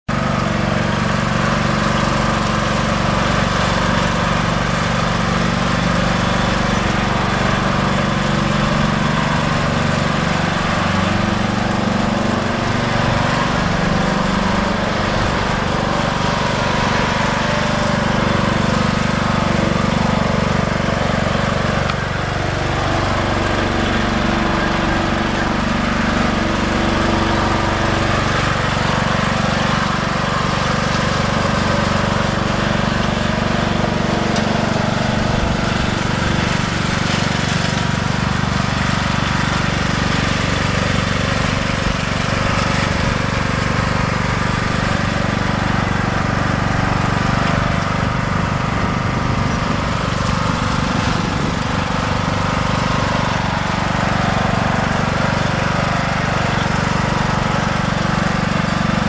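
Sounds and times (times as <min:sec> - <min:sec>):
riding lawn mower engine: 0:00.0 - 0:59.0.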